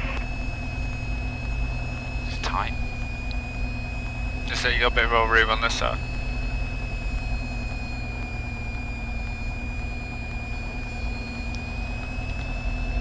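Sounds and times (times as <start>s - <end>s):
aircraft engine idling: 0.0s - 13.0s
thin high whine: 0.0s - 13.0s.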